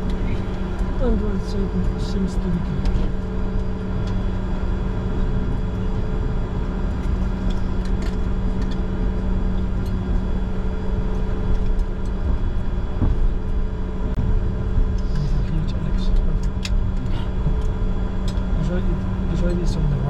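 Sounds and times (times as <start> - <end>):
jet engines low rumble: 0.0 - 20.0.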